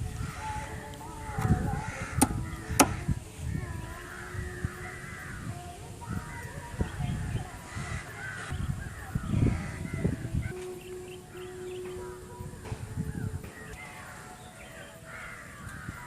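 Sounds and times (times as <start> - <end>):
crows cawing: 0.0 - 5.6, 7.6 - 16.0.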